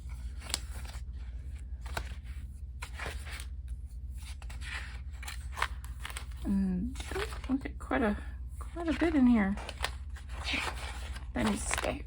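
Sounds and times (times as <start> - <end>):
paper rustling: 0.0 - 7.7, 8.6 - 12.0
low steady hum: 0.0 - 12.0.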